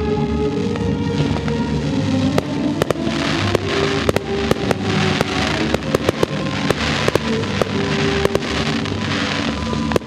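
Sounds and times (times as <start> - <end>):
music playing: 0.0 - 10.0
fireworks crackling hiss: 0.4 - 10.0
faint fireworks pops: 0.6 - 10.0.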